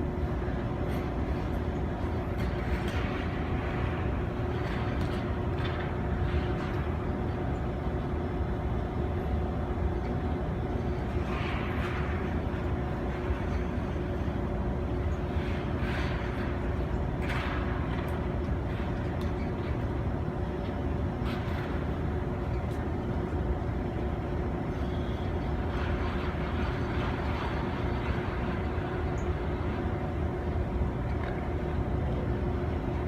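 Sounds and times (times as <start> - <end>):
ice rink machinery hum: 0.0 - 33.0.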